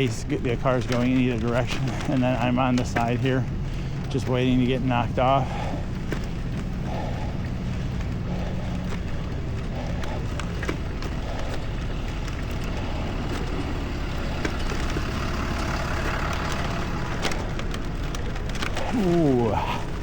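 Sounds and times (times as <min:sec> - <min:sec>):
motor traffic rumble: 0:00.0 - 0:20.0
road noise hiss: 0:00.0 - 0:20.0.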